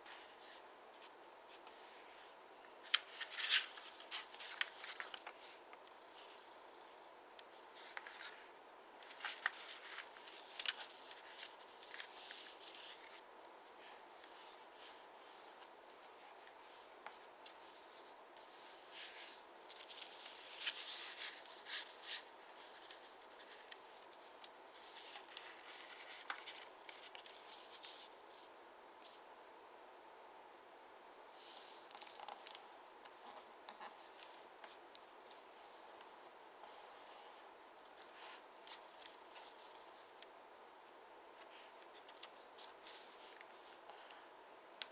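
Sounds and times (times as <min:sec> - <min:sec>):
paper rustling and crinkling: 0:00.0 - 0:06.4, 0:07.7 - 0:28.5, 0:31.4 - 0:40.3, 0:41.4 - 0:44.9
steady hiss: 0:00.0 - 0:44.9.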